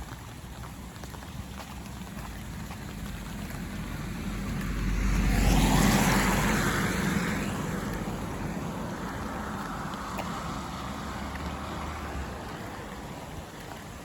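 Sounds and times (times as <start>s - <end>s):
tyres hissing on wet road: 0.0s - 14.0s
vehicle engine rumble: 0.0s - 14.0s.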